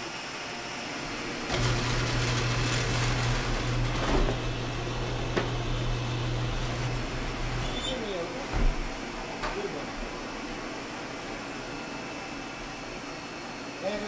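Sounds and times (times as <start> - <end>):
printing press motor hum and clatter: 0.0 - 14.0.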